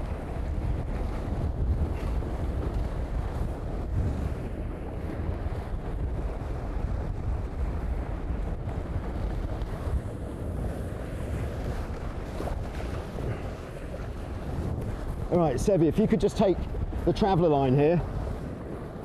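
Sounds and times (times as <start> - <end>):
water rushing past hulls: 0.0 - 19.0
wind buffeting microphone: 0.0 - 19.0.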